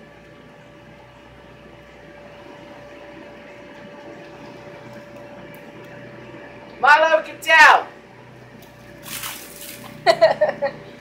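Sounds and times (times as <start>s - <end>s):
air blower motor hum: 0.0s - 11.0s.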